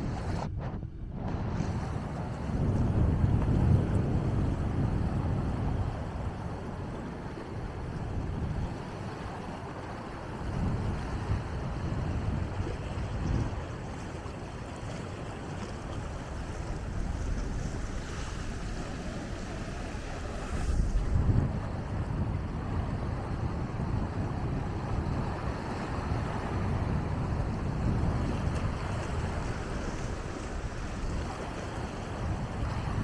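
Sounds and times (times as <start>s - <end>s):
ocean waves breaking: 0.0s - 33.0s
wind rumbling on microphone: 0.0s - 33.0s.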